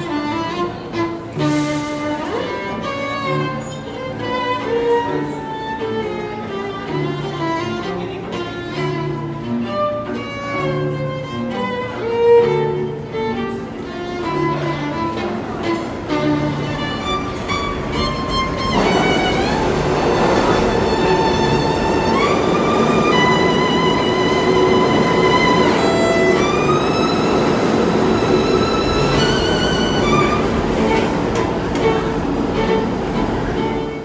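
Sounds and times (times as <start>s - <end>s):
cello playing held low notes: 0.0s - 34.0s
violin melody: 0.0s - 34.0s.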